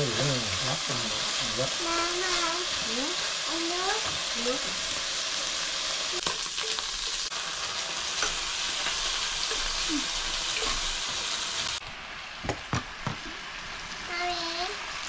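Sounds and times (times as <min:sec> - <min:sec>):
meat sizzling on electric grill: 0:00.0 - 0:15.0.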